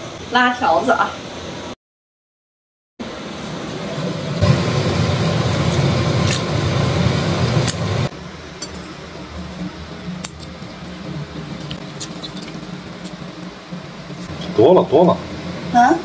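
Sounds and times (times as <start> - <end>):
water at a rolling boil: 0.0 - 1.8, 3.0 - 16.0
gas stove burner roaring: 3.0 - 16.0.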